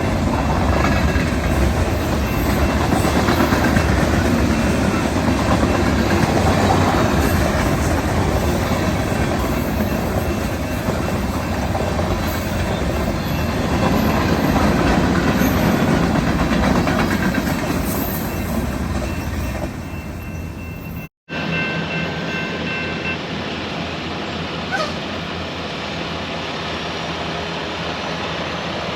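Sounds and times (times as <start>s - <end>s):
freight train rolling past: 0.0s - 28.9s.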